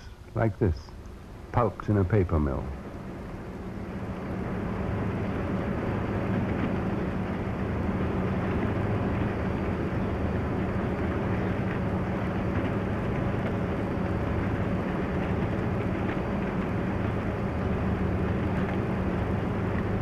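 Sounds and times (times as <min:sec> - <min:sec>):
machinery rumbling: 0:00.0 - 0:20.0.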